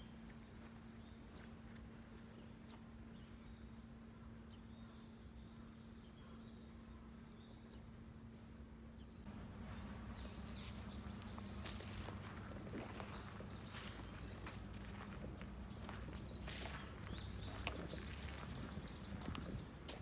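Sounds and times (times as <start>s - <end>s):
faint low hum: 0.0s - 20.0s
small birds chirping: 2.4s - 20.0s.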